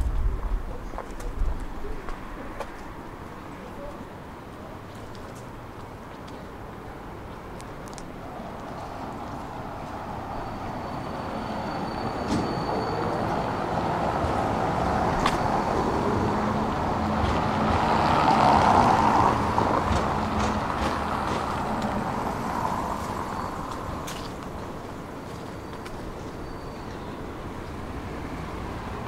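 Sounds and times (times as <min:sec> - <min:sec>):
tram rumble and wheel noise: 0:00.0 - 0:29.0.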